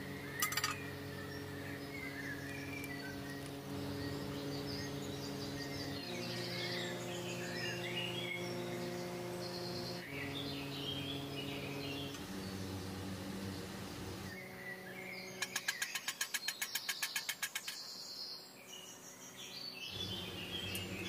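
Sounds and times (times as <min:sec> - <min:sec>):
steady low hum: 0:00.0 - 0:15.9, 0:18.4 - 0:21.0
birds chirping: 0:00.0 - 0:21.0.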